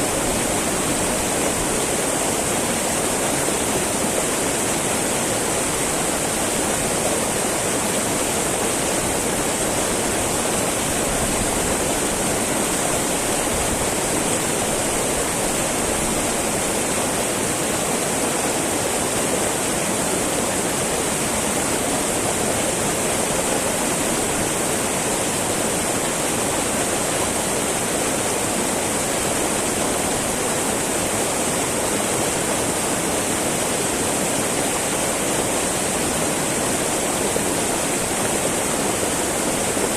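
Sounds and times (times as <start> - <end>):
river babbling over rocks: 0.0 - 39.9.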